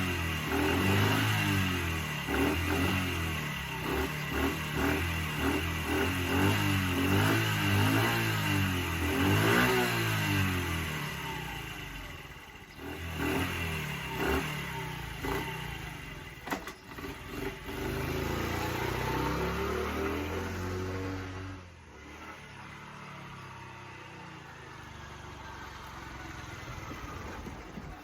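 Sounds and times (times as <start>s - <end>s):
small engine revving and idling: 0.0s - 28.0s.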